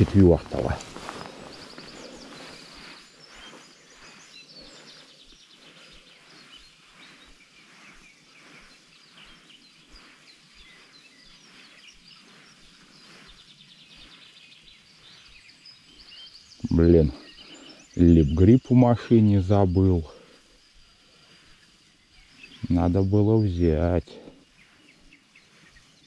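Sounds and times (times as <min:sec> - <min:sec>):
birds chirping: 0:00.0 - 0:26.0
soft repeating rustle: 0:00.0 - 0:26.0.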